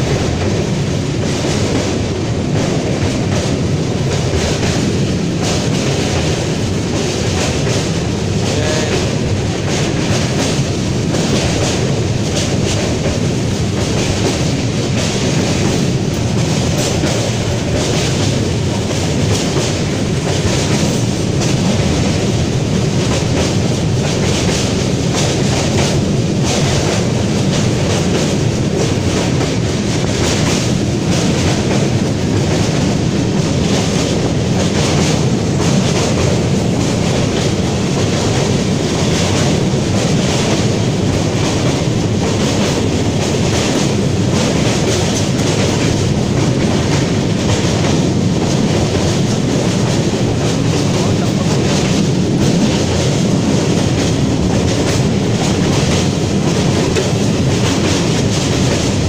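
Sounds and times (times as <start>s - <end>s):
train rumble: 0.0s - 59.0s
train wheels clattering: 0.0s - 59.0s.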